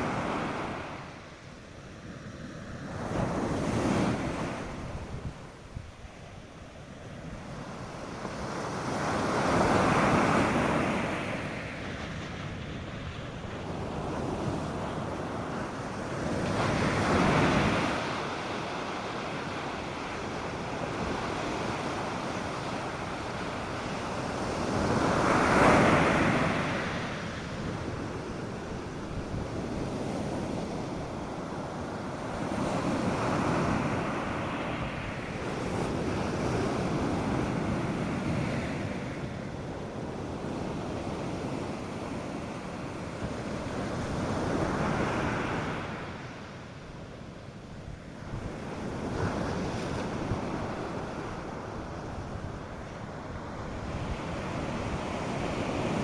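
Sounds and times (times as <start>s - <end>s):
surf breaking on a beach: 0.0s - 56.0s
wind on the microphone: 0.0s - 56.0s.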